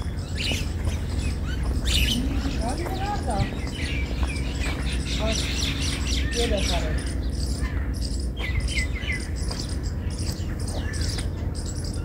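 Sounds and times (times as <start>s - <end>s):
low steady rumble: 0.0s - 12.0s
small birds chirping: 0.0s - 12.0s.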